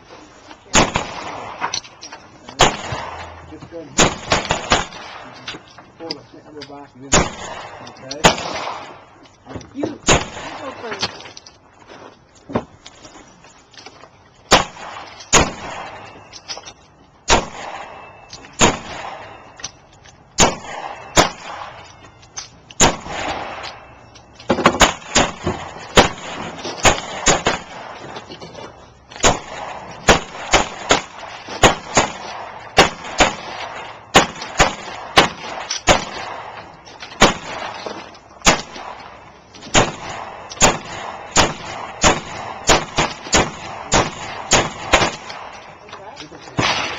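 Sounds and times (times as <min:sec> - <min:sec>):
pistol shots: 0:00.7 - 0:05.6, 0:07.0 - 0:09.2, 0:09.8 - 0:11.2, 0:14.5 - 0:16.6, 0:17.2 - 0:19.8, 0:20.4 - 0:28.3, 0:29.1 - 0:46.9.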